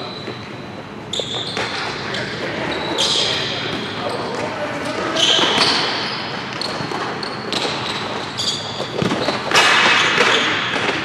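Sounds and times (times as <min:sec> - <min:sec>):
shoes squeaking on floor: 0:00.0 - 0:10.7.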